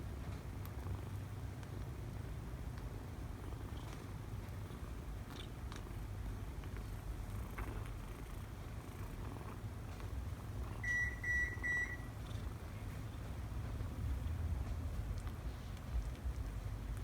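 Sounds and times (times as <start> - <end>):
kitten purring: 0.6 - 17.0.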